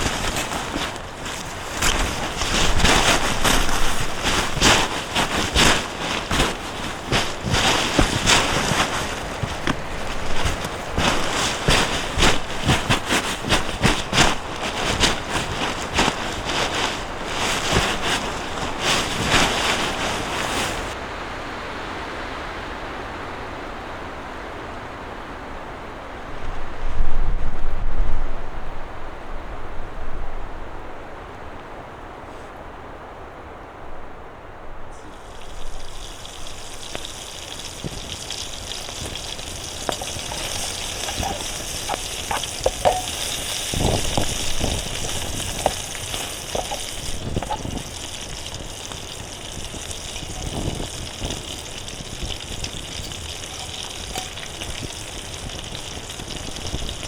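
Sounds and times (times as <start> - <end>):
wind buffeting microphone: 0.0 - 21.0, 21.7 - 57.0
gusting wind: 0.0 - 57.0.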